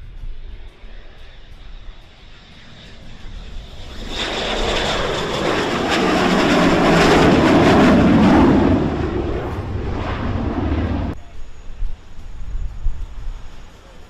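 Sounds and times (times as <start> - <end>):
plane passing close by: 0.0 - 14.0.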